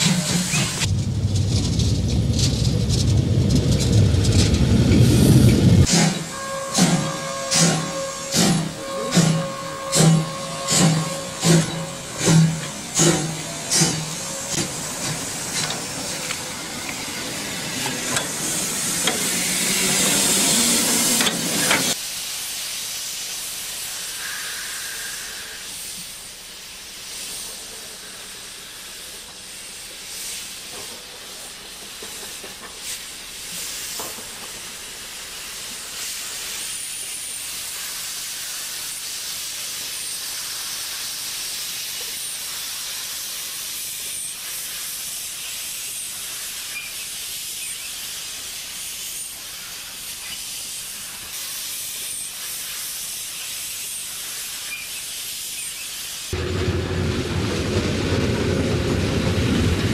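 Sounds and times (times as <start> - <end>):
steam locomotive rumble: 0.0 - 59.9
steam hissing: 2.0 - 56.7.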